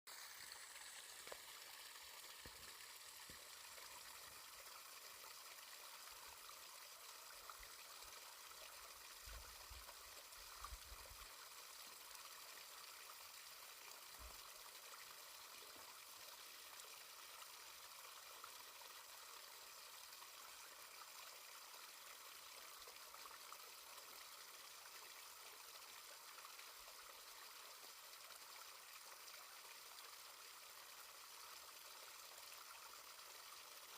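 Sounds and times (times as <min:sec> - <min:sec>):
faint hiss of running water: 0:00.1 - 0:33.9.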